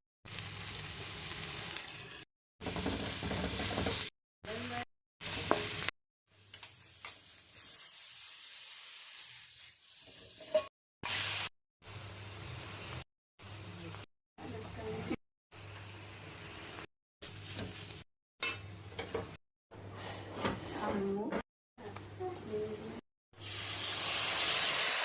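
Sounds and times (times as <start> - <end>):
food sizzling in a pan: 0.3 - 18.8, 23.4 - 25.0.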